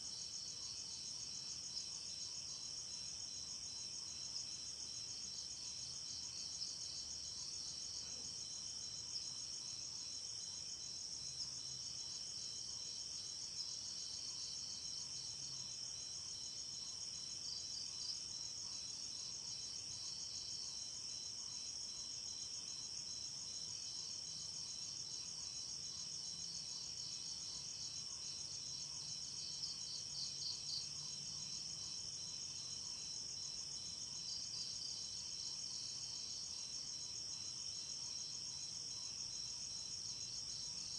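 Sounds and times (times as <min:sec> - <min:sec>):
crickets and insects chirping: 0:00.0 - 0:40.9.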